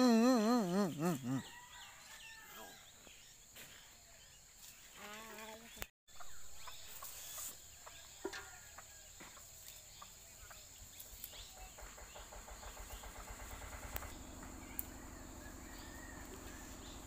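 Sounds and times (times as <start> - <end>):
birds chirping: 0.0 - 8.6, 9.6 - 17.0
faint outdoor ambience: 0.0 - 17.0.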